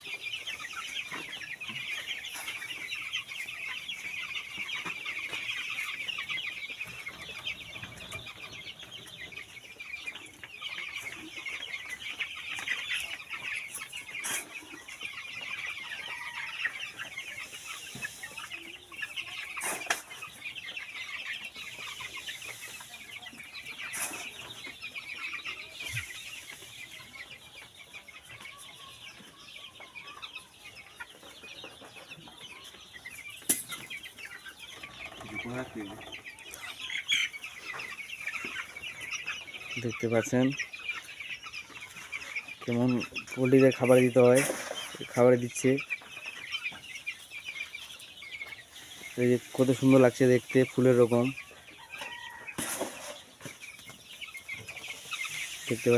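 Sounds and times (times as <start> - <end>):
chickens calling: 0.0 - 55.9.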